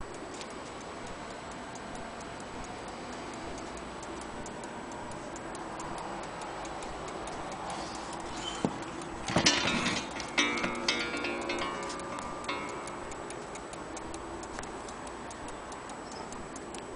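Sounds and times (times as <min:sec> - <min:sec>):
wall clock ticking: 0:00.0 - 0:16.9.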